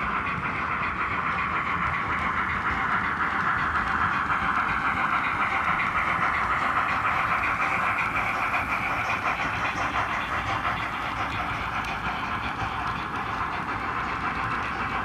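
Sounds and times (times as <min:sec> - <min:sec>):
model train wheels rolling: 0:00.0 - 0:15.0.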